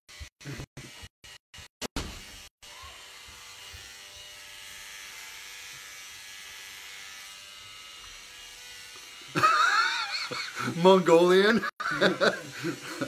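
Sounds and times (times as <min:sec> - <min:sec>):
electric hair clippers buzzing: 0:00.1 - 0:13.0.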